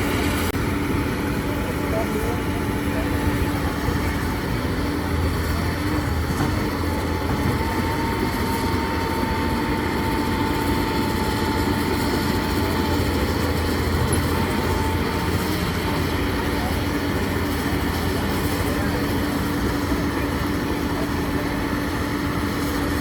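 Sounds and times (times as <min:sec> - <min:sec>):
heavy diesel engine running: 0:00.0 - 0:23.0
thin steady whine: 0:00.0 - 0:23.0.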